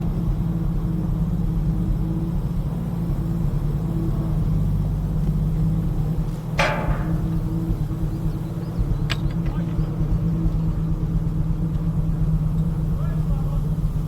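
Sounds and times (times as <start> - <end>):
truck crane engine rumbling: 0.0 - 14.0.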